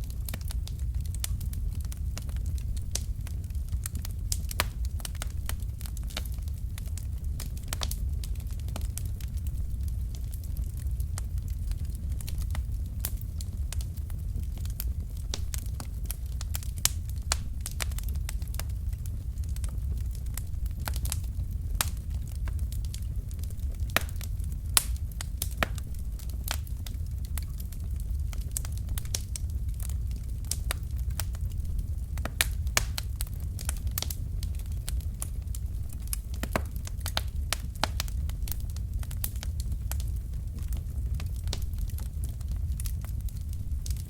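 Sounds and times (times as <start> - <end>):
burning logs crackling: 0.0 - 44.0
low rumble of flames: 0.0 - 44.0.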